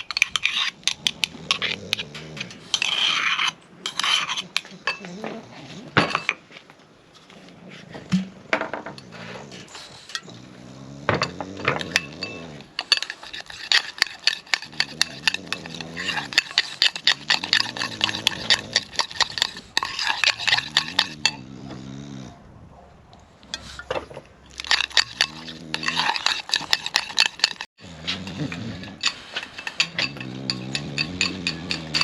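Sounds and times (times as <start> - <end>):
metal utensils clinking on dishes: 0.0 - 5.4, 8.6 - 10.4, 11.0 - 21.6, 23.5 - 32.0.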